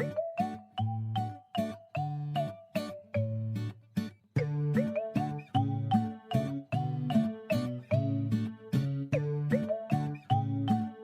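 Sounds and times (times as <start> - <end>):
upbeat plucked music: 0.0 - 11.0.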